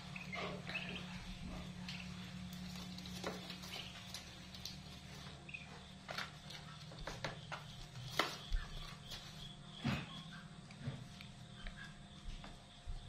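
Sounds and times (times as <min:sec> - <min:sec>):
ducklings pecking in plastic dish: 0:00.0 - 0:12.5
ducklings peeping: 0:00.0 - 0:13.0
steady low hum: 0:00.0 - 0:13.0.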